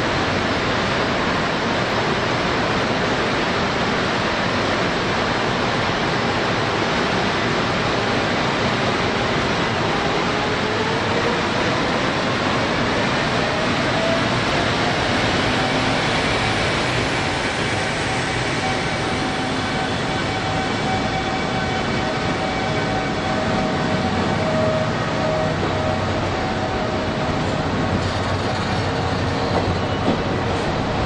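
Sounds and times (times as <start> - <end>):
faint train whine: 0.0 - 31.0
train rolling rumble: 0.0 - 31.0.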